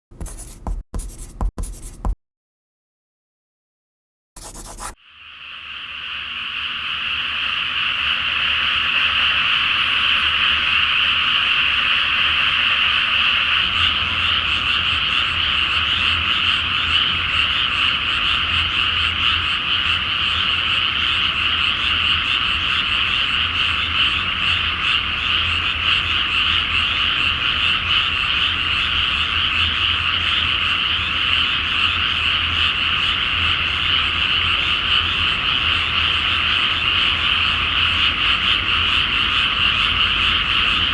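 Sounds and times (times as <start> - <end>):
chorus of frogs calling: 5.4 - 40.9.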